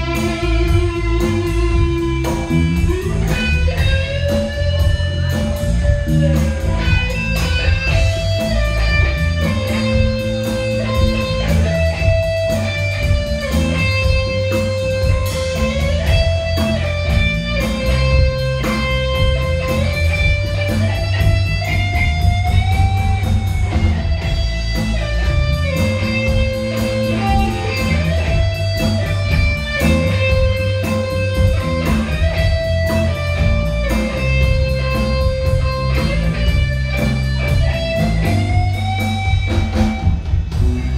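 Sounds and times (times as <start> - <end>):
bass guitar: 0.0 - 40.9
drums: 0.0 - 40.9
electric guitar lead bending notes: 0.0 - 40.9.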